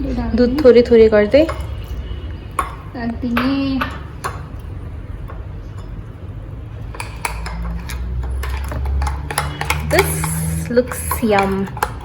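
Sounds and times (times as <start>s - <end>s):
utensil scraping mixing bowl: 0.0s - 12.0s.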